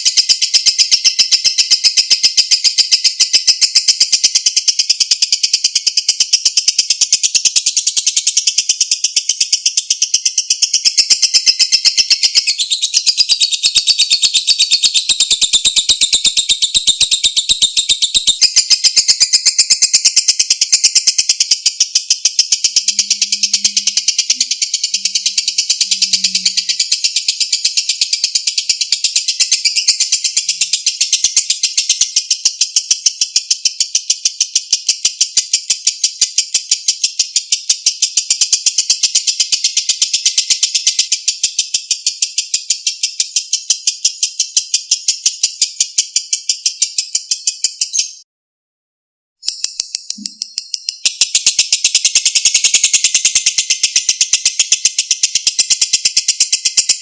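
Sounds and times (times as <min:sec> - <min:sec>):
bird high-pitched chattering trill: 0:00.0 - 0:48.2, 0:49.4 - 0:57.0.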